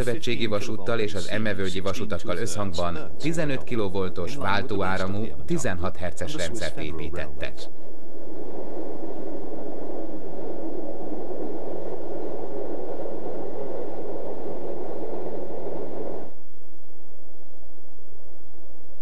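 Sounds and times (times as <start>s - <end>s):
faint low rumble: 0.0s - 19.0s.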